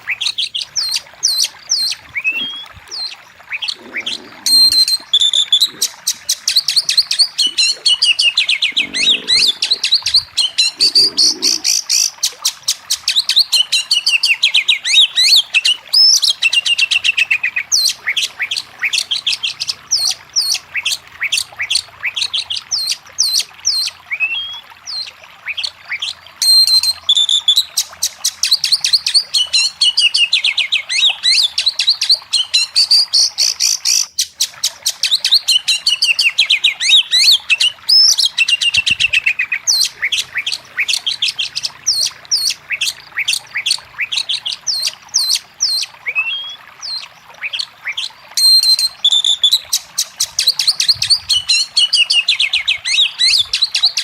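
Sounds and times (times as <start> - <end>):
bird singing whistles and trills: 0.1 - 54.0.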